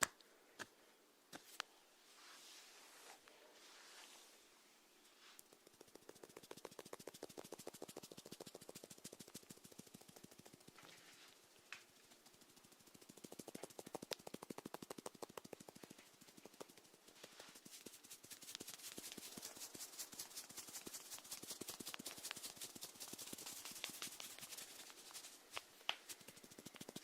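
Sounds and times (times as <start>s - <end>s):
snails feeding tiny clicks: 5.4s - 27.0s.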